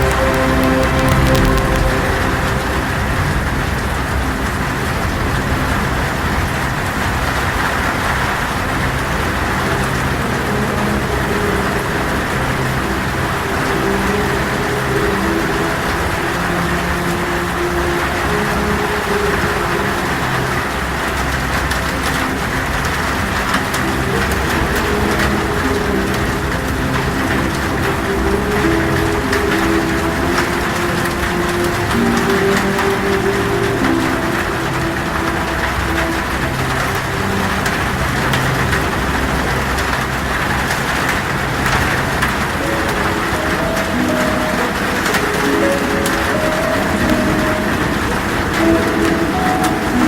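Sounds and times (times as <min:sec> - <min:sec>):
heavy rain on a tin roof: 0:00.0 - 0:50.0
howling storm wind: 0:00.0 - 0:50.0
soft sustained low notes: 0:00.0 - 0:50.0.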